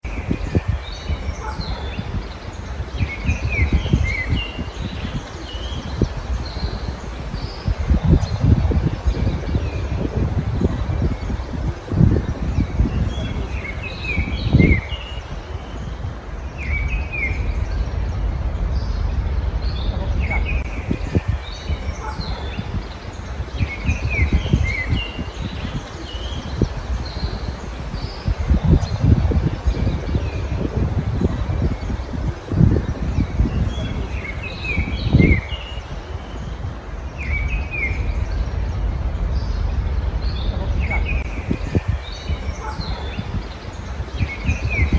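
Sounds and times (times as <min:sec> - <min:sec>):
low rumble: 0:00.0 - 0:44.9
songbirds chirping and singing: 0:00.0 - 0:44.9
wind buffeting microphone: 0:00.0 - 0:44.9.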